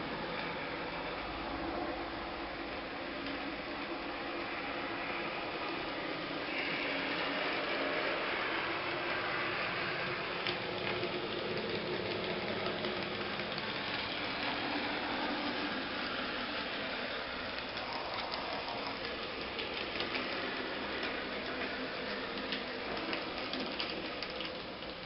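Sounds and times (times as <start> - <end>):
model train running: 0.0 - 25.0.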